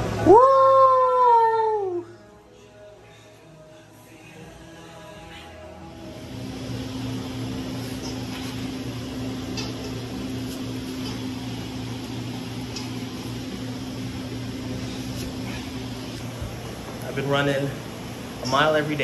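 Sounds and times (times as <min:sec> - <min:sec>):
machine humming and whooshing: 0:01.9 - 0:19.0.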